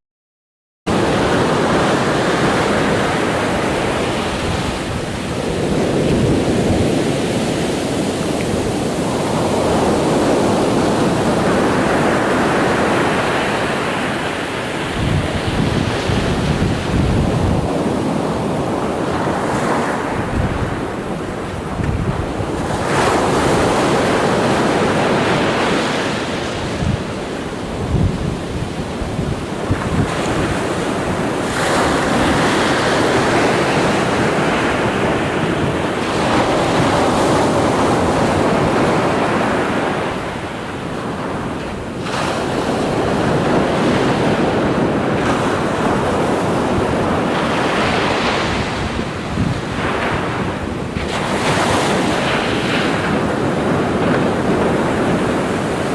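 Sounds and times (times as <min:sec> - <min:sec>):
ocean waves breaking: 0:00.9 - 0:55.9
wind buffeting microphone: 0:00.9 - 0:55.9.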